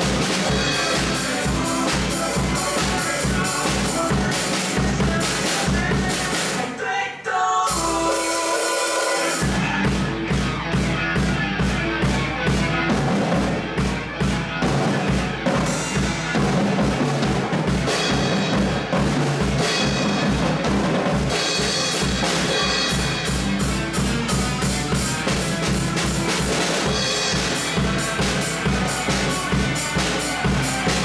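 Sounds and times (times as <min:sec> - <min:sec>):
backing track with bass line: 0:00.0 - 0:06.6, 0:07.7 - 0:31.0
drum kit playing rock beat: 0:00.0 - 0:06.8, 0:07.7 - 0:31.0.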